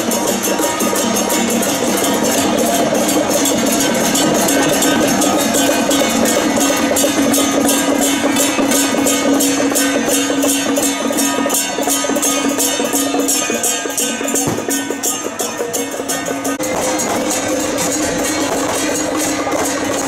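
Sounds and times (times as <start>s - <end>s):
hand drum beating fast rhythm: 0.0s - 20.0s
small hand cymbals: 0.0s - 20.0s.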